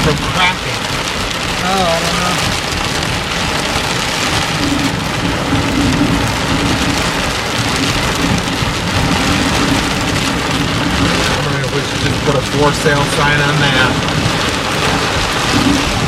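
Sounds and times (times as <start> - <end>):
heavy rain on car: 0.0 - 16.0.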